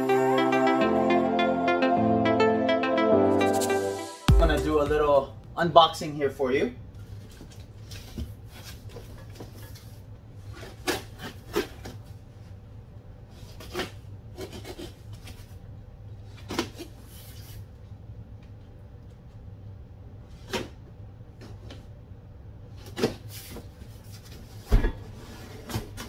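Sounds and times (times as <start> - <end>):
low steady hum: 4.3 - 26.0.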